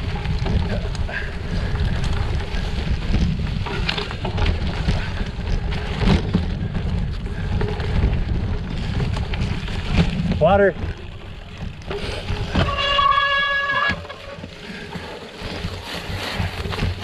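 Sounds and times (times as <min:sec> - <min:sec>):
bicycle tyres rolling on gravel: 0:00.0 - 0:17.0
rattling clicks from bike: 0:00.0 - 0:17.0
wind buffeting microphone: 0:00.0 - 0:17.0.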